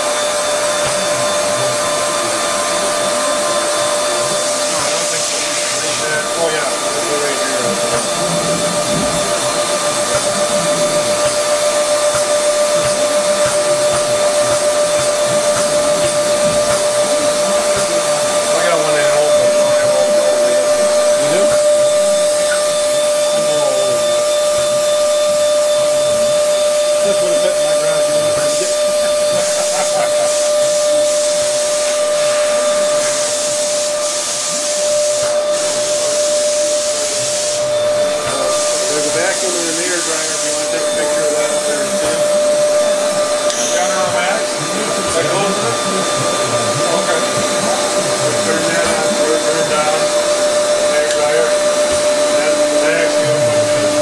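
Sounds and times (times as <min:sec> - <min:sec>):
motor hissing and whining: 0:00.0 - 0:54.0.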